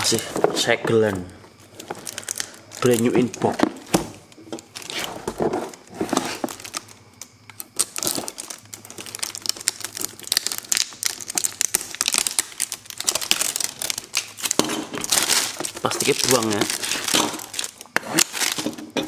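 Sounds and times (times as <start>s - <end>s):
plastic wrap crinkling: 1.6s - 19.0s.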